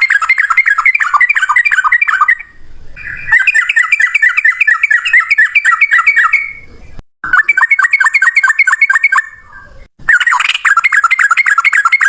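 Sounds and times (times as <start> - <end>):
bird singing fast rattling notes: 0.0 - 12.0.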